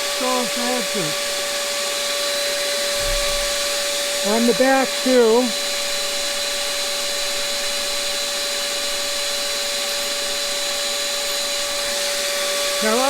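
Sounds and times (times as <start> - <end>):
grinder wheel whine: 0.0 - 13.0
vacuum rushing hiss: 0.0 - 13.0.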